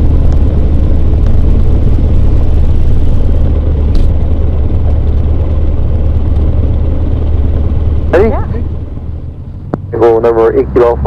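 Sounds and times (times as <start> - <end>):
airplane engine and propeller droning: 0.0 - 11.0.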